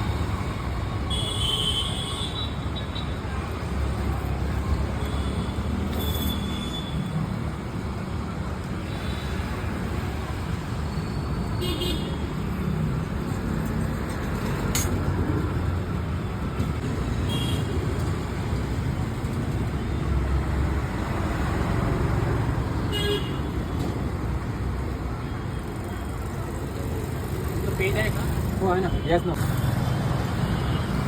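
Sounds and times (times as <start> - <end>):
road traffic passing: 0.0 - 31.0.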